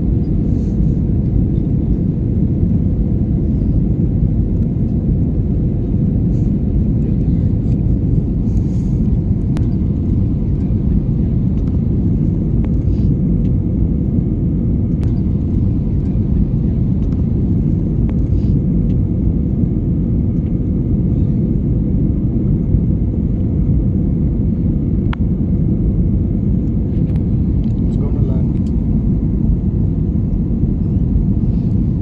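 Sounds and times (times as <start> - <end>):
airliner cabin engine rumble: 0.0 - 32.0.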